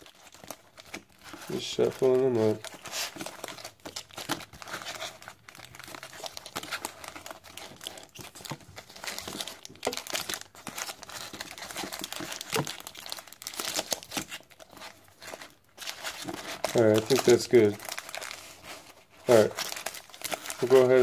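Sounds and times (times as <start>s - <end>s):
foil wrappers crinkling: 0.0s - 21.0s.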